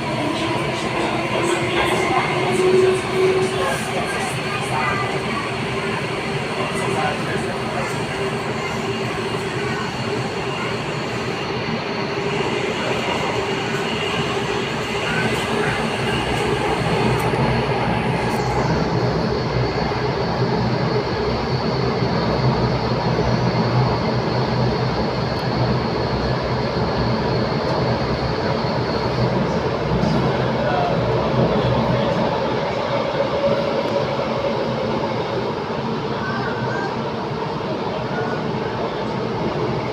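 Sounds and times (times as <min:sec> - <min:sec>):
train wheels rumbling: 0:00.0 - 0:39.9.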